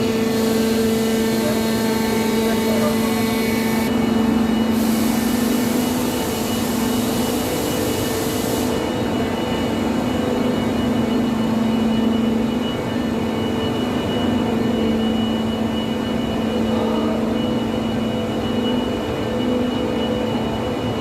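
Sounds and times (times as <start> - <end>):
heavy construction machinery drone: 0.0 - 21.0.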